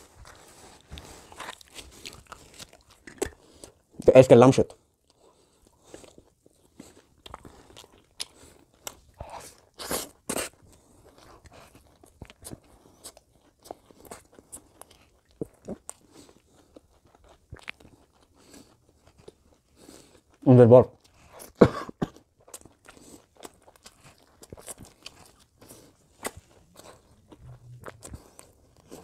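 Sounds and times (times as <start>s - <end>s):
person chewing: 0.0s - 4.1s, 4.7s - 29.0s.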